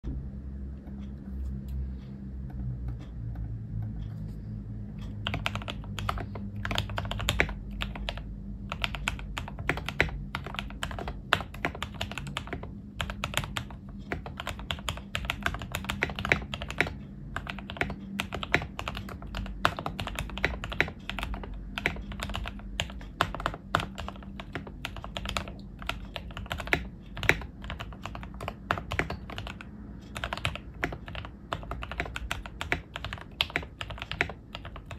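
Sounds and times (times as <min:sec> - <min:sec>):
low hum: 0:00.0 - 0:34.9.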